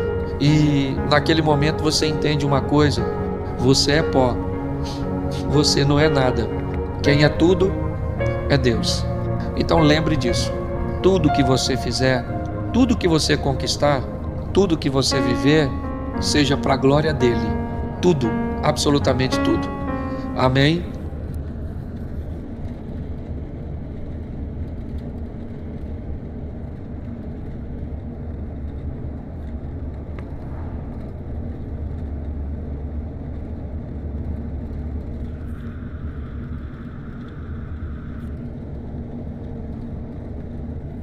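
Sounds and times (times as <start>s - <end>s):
faint higher hum: 0.0s - 41.0s
steady low rumble: 0.0s - 41.0s.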